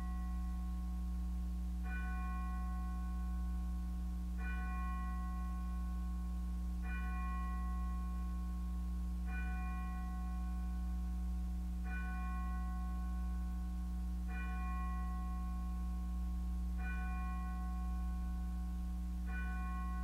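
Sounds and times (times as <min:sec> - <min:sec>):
church bell tolling: 0:00.0 - 0:20.0
steady low hum: 0:00.0 - 0:20.0.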